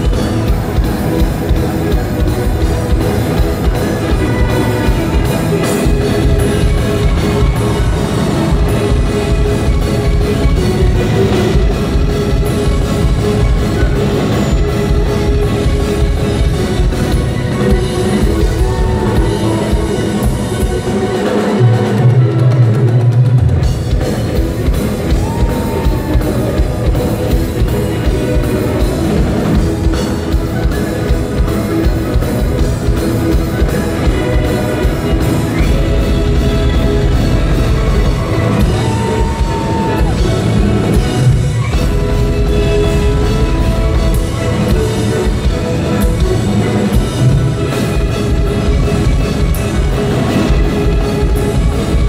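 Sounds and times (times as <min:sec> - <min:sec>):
rock drum kit solo: 0:00.0 - 0:52.0.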